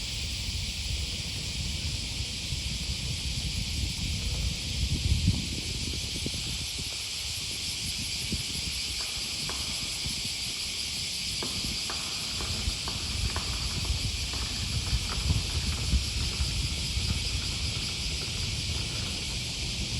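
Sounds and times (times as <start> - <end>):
cicadas buzzing: 0.0 - 19.9.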